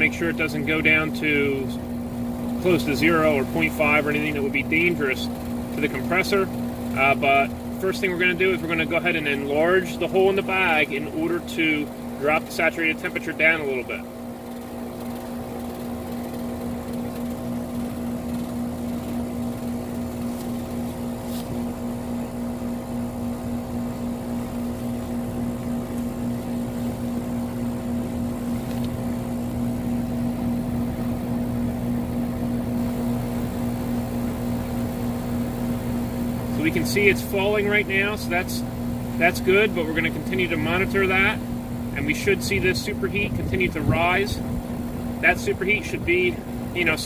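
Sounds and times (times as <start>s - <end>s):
air conditioner unit humming: 0.0s - 47.0s.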